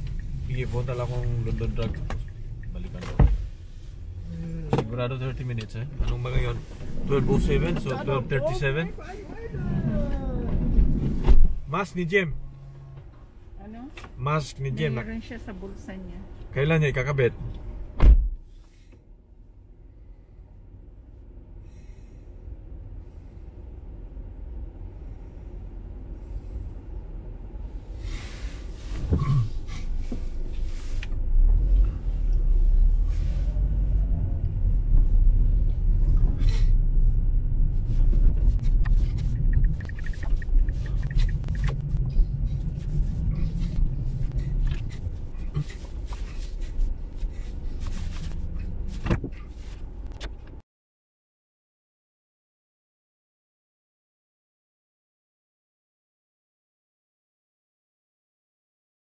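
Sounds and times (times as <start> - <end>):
car engine and road rumble: 0.0 - 50.6.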